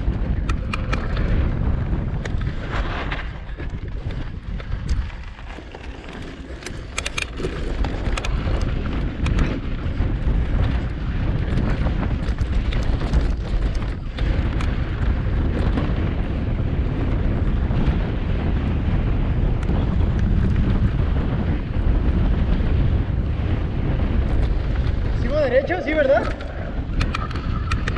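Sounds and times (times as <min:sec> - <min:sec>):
bike clicking and rattling: 0:00.0 - 0:27.9
bike tyres rumbling on rocks: 0:00.0 - 0:27.9
wind on microphone: 0:00.0 - 0:27.9.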